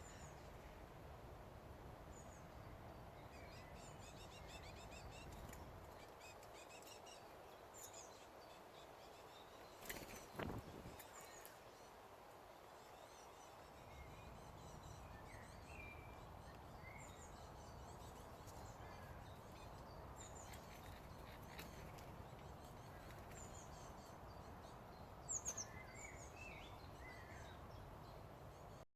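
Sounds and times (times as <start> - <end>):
small birds chirping: 2.1 - 28.9.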